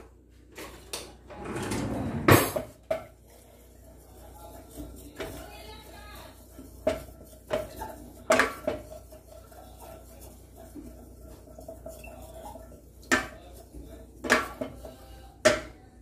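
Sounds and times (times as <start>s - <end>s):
wooden spatula scraping a metal pot: 1.3s - 15.7s.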